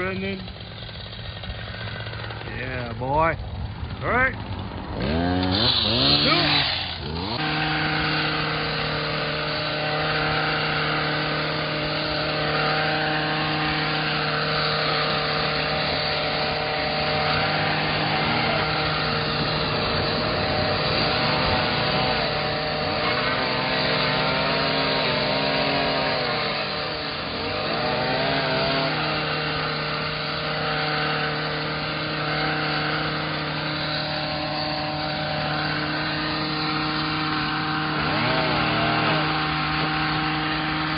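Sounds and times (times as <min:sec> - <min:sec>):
two-stroke trimmer engine revving: 0:00.0 - 0:40.9
two-stroke trimmer engine steady: 0:00.0 - 0:40.9.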